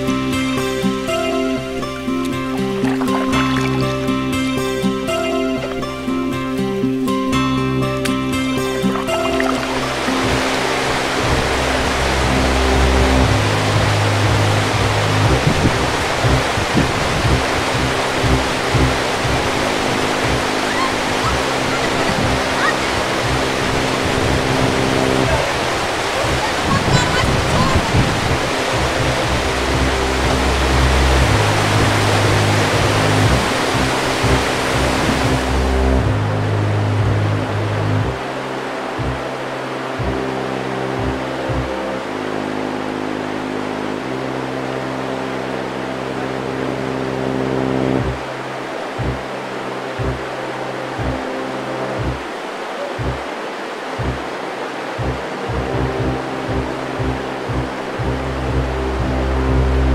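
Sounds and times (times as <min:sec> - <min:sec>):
background music low notes: 0:00.0 - 0:59.9
river rapids rushing: 0:00.0 - 0:59.9.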